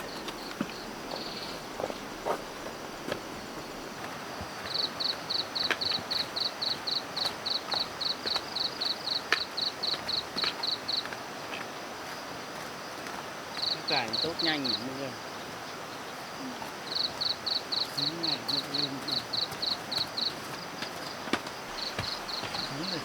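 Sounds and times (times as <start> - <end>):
insect chirping: 0.0 - 23.0
outdoor background noise: 0.0 - 23.0.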